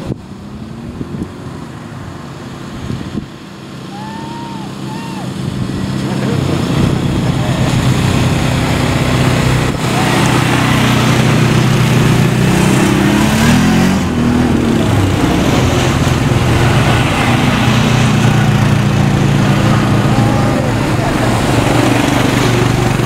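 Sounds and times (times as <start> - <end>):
atv engines driving past: 0.0 - 23.0.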